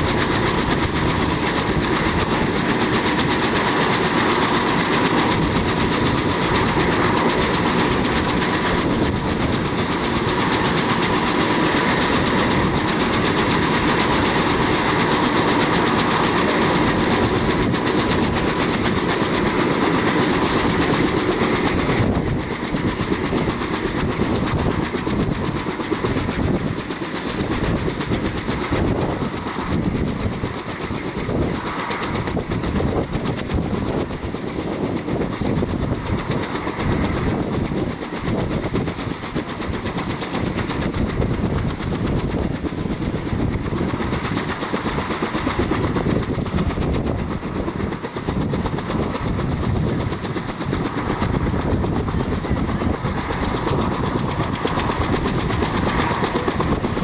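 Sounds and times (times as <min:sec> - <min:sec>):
helicopter engine whine: 0:00.0 - 0:57.0
helicopter rotor beat: 0:00.0 - 0:57.0.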